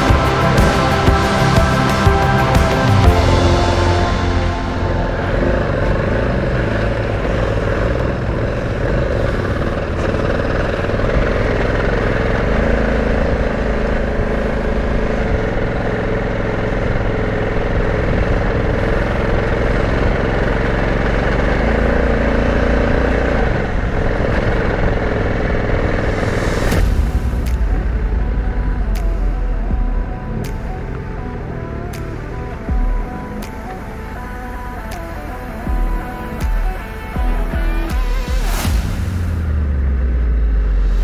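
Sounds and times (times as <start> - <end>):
motorcycle engine running: 0.0 - 41.0
steady rushing noise: 0.0 - 41.0.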